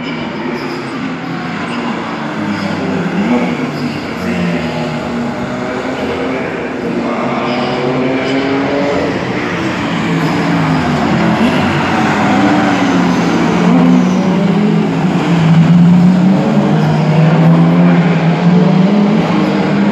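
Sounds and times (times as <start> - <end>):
race car engines at high revs: 0.0 - 19.9.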